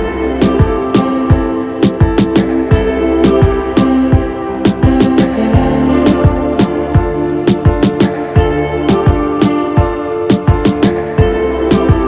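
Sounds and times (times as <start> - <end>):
sustained chord: 0.0 - 12.0
drum beat: 0.4 - 12.0.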